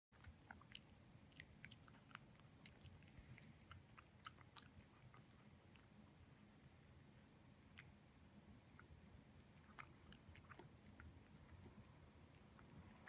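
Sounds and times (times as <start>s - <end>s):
cat chewing and lapping: 0.1s - 13.0s.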